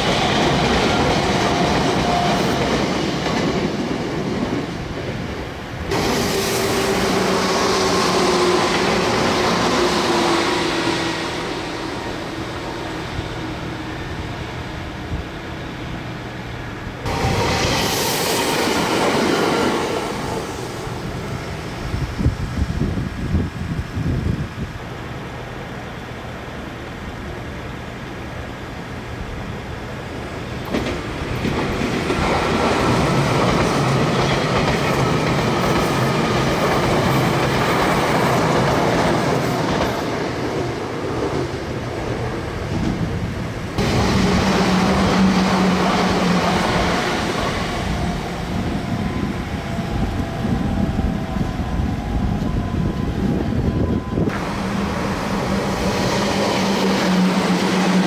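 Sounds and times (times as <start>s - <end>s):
electric trains running on track: 0.0s - 58.0s.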